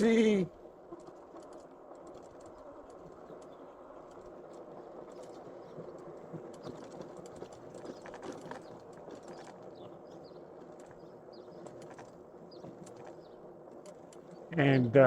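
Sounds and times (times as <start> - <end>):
e-bike riding hum: 0.0 - 15.0
light clicks and rattles: 0.0 - 15.0.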